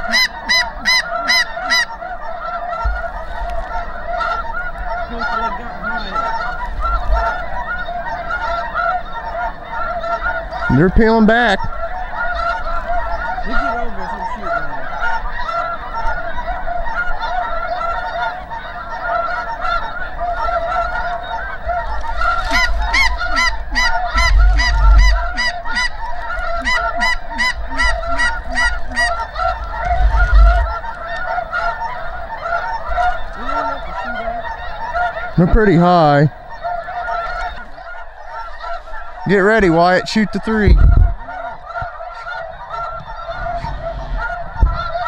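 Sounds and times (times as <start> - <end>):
flock of geese honking: 0.0 - 45.0
sharp repeated goose calls: 0.0 - 45.0.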